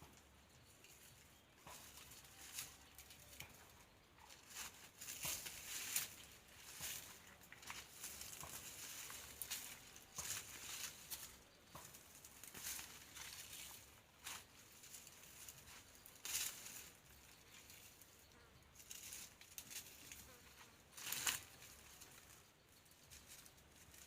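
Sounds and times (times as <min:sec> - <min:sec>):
dry brush rustling and crackling: 0:00.1 - 0:24.0.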